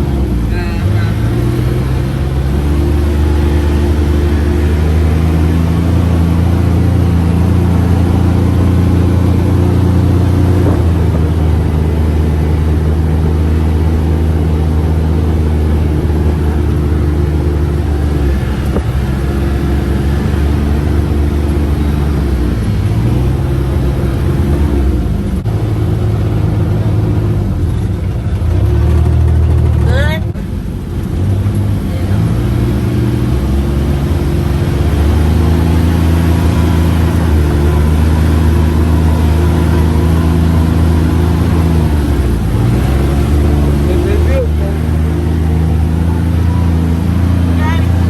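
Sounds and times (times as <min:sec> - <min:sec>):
utility vehicle engine droning: 0:00.0 - 0:48.0.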